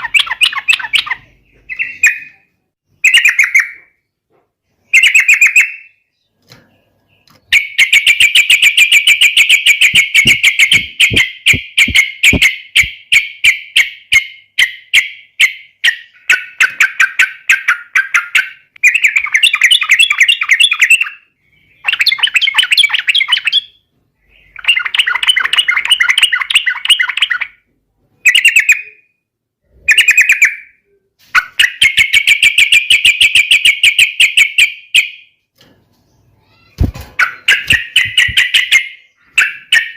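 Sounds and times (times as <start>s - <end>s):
bird chattering song: 0.0s - 4.2s, 4.8s - 27.6s, 28.2s - 35.2s, 36.0s - 39.9s.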